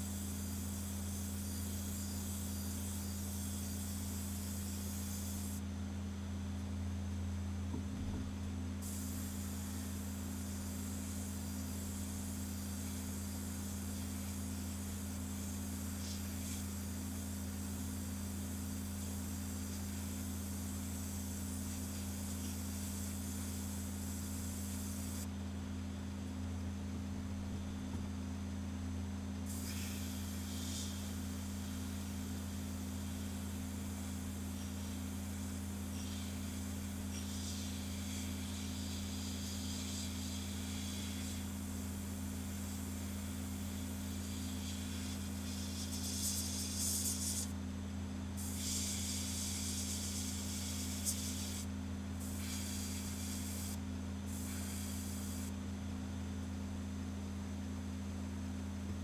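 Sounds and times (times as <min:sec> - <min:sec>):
airbrush spraying hiss: 0:00.0 - 0:05.6, 0:08.8 - 0:25.3, 0:29.5 - 0:47.6, 0:48.4 - 0:55.5
steady low hum: 0:00.0 - 0:59.0.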